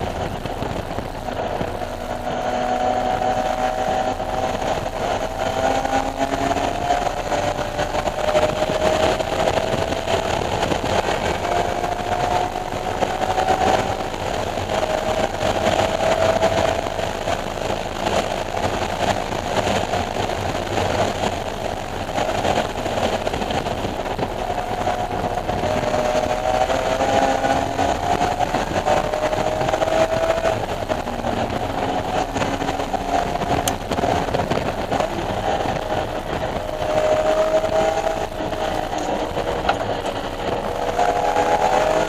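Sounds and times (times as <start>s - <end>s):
race car engine revving: 0.0s - 42.0s
wind and road noise: 0.0s - 42.0s.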